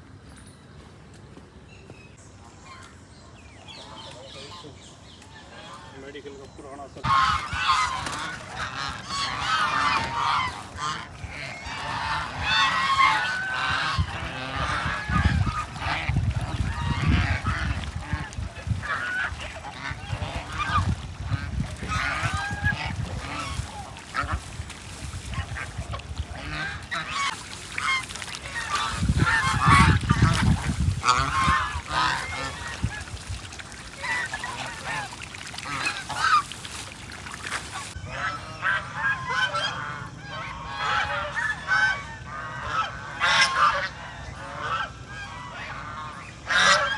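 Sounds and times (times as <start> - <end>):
ducks calling: 3.8 - 46.9.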